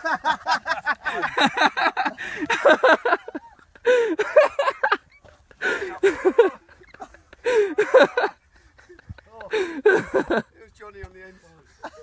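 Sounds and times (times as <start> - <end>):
people laughing hard: 0.0 - 10.5, 11.6 - 12.0.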